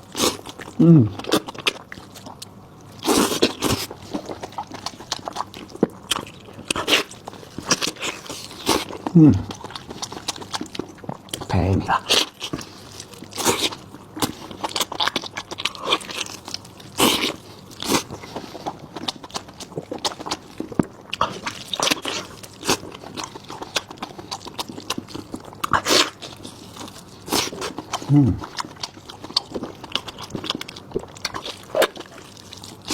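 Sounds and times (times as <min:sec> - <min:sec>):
close chewing with wet smacks: 0:00.0 - 0:32.9.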